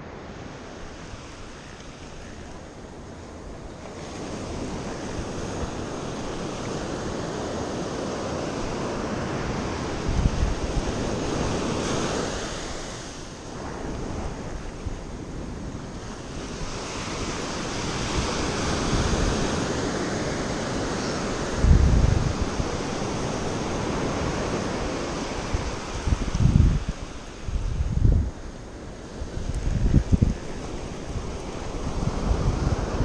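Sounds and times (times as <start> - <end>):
surf breaking on a beach: 0.0 - 33.0
wind buffeting the microphone: 0.0 - 33.0.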